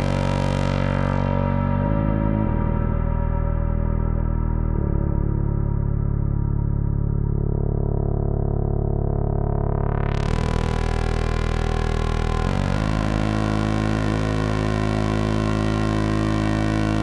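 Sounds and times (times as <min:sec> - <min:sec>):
synthesizer deep bass notes: 0:00.0 - 0:17.0.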